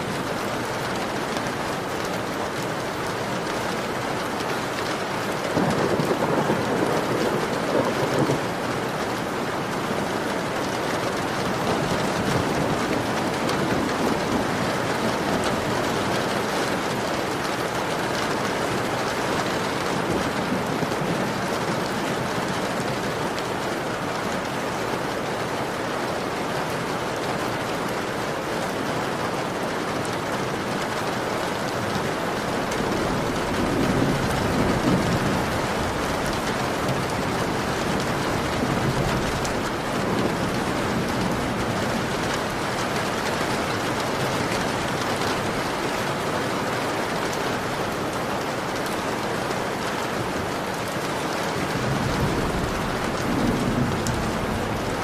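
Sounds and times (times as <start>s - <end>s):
heavy rain on window: 0.0s - 55.0s.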